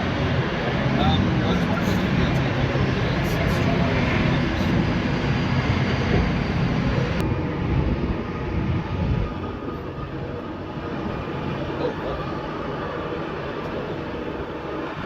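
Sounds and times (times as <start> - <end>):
heavy engine rumble: 0.0 - 15.0.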